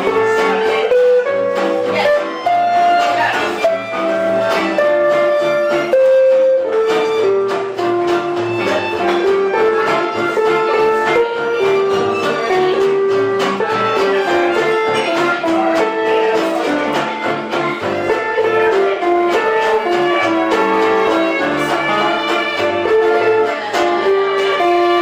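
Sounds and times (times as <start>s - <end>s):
live band playing gypsy music: 0.0s - 25.0s.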